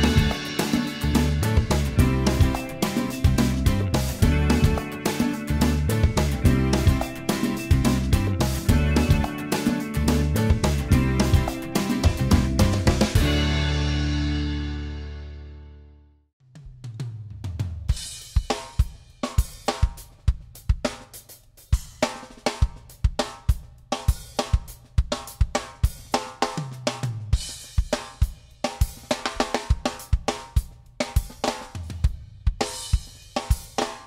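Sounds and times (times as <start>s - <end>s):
drum beat with bass line: 0.0s - 15.2s, 16.6s - 34.0s.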